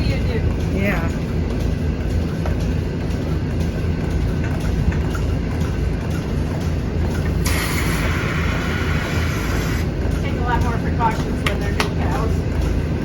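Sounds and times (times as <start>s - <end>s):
milking machinery drone: 0.0s - 13.0s.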